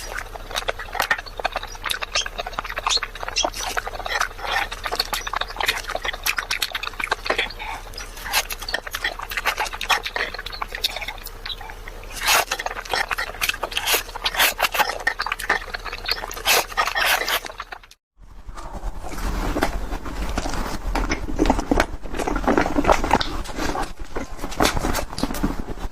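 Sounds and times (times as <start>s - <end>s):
wet chewing and lip smacking: 0.0s - 18.0s, 20.3s - 25.4s.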